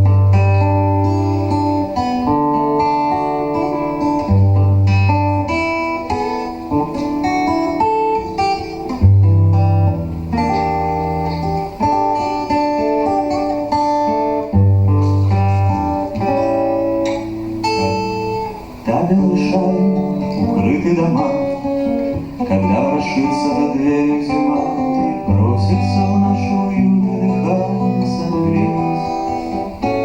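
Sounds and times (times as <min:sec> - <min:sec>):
guitar music: 0:00.0 - 0:30.0.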